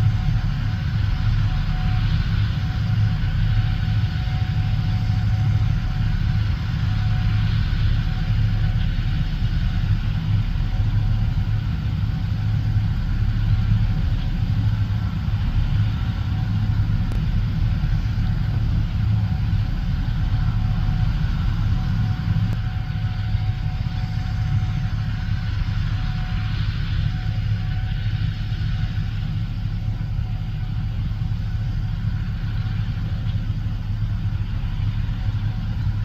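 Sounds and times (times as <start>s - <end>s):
combine harvester engine drone: 0.0s - 36.0s
faint steady whine: 0.0s - 36.0s.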